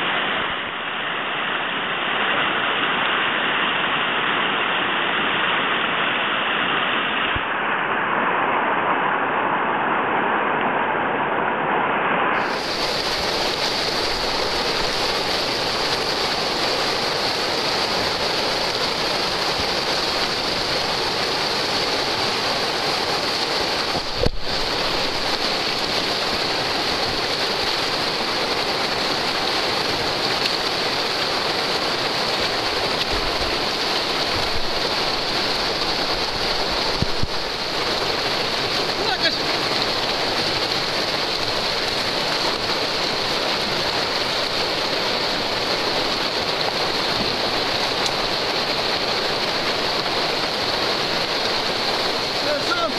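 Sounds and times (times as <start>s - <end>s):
rushing whitewater: 0.0s - 52.9s.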